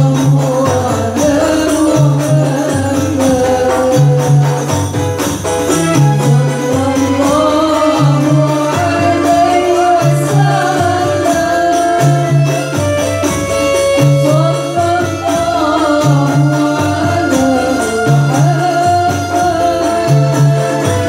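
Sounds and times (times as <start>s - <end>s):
woman singing into microphone: 0.0s - 5.0s, 5.7s - 21.0s
frame drums with jingles: 0.0s - 21.0s
goblet drum: 0.0s - 21.0s.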